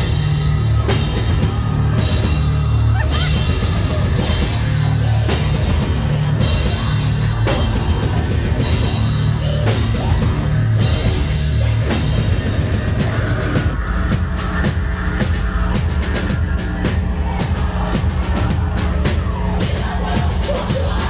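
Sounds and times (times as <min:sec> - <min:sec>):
heavy bass: 0:00.0 - 0:21.0
live metal band playing loud: 0:00.0 - 0:21.0
pounding drums: 0:00.0 - 0:21.0.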